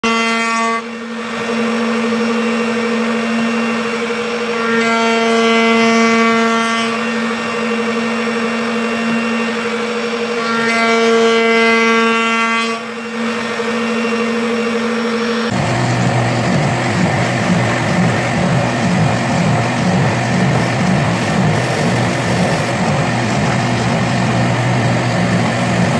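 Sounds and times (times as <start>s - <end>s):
router whining: 0.0s - 25.9s.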